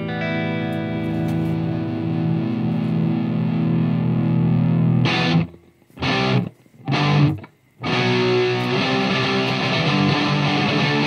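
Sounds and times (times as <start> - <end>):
music chords: 0.0 - 11.0.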